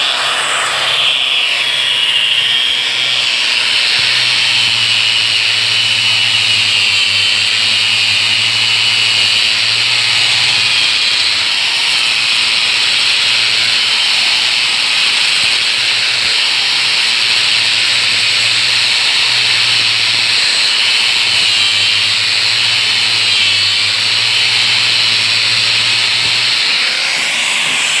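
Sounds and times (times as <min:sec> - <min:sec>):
angle grinder sanding: 0:00.0 - 0:28.0.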